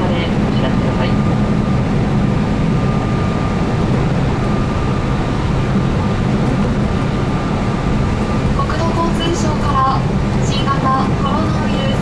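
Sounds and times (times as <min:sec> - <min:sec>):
electric train running: 0:00.3 - 0:12.0.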